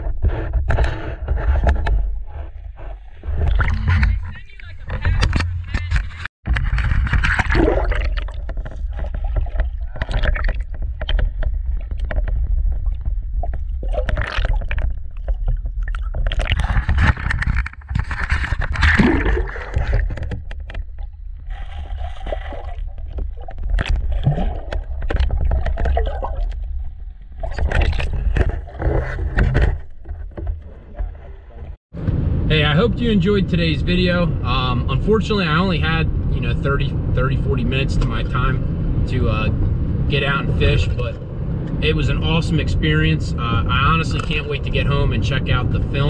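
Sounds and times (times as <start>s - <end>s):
water gurgling and sloshing: 0.0s - 31.8s, 33.1s - 46.0s
low underwater rumble: 0.0s - 46.0s.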